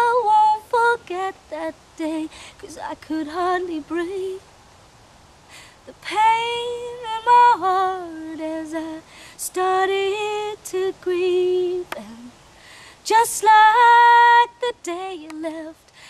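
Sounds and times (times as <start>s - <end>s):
woman singing a cappella: 0.0s - 4.5s, 5.8s - 16.0s.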